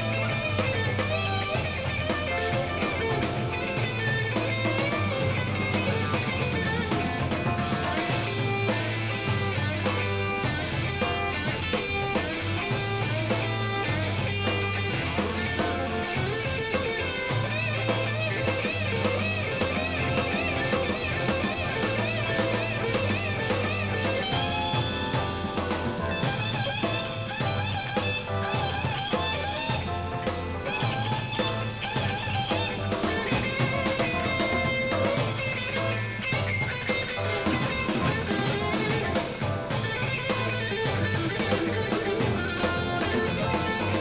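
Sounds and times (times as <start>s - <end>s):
bass guitar: 0.0s - 44.0s
drum kit: 0.0s - 44.0s
electric guitar lead lines: 0.0s - 44.0s.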